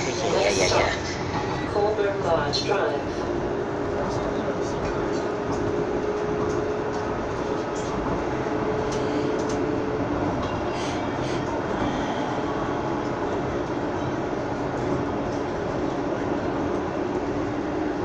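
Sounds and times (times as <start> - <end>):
streetcar rolling on rails: 0.0 - 18.0.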